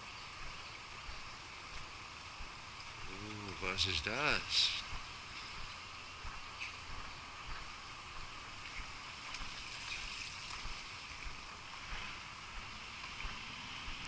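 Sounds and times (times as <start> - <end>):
water trickling over rocks: 0.0 - 13.4
soft footsteps on pavement: 0.0 - 14.0.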